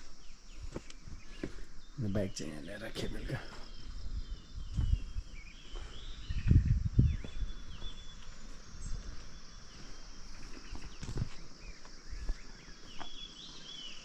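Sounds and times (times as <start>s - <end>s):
insect hum: 0.0s - 14.0s
small birds chirping: 0.0s - 14.0s.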